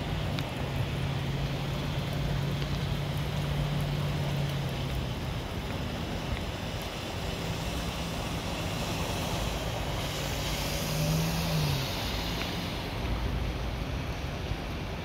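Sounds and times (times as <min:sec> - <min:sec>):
low engine hum: 0:00.0 - 0:15.0
water sprayed by tyres: 0:00.0 - 0:15.0.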